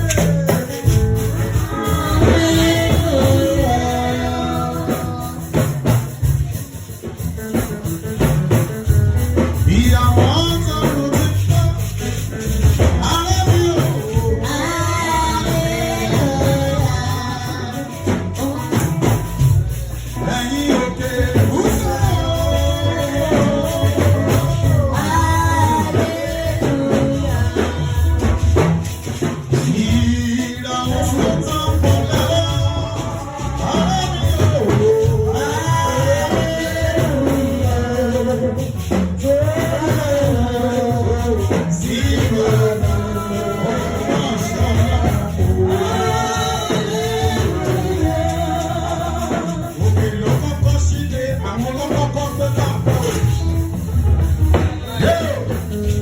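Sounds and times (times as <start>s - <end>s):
gospel singing with held notes: 0.0s - 56.0s
percussion strikes: 0.0s - 56.0s
strong bass line: 0.0s - 56.0s.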